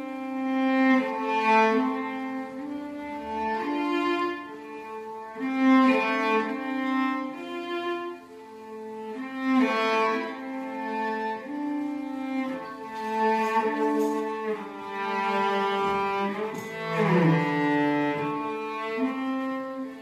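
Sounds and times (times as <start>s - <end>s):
slow bowed strings music: 0.0s - 20.0s.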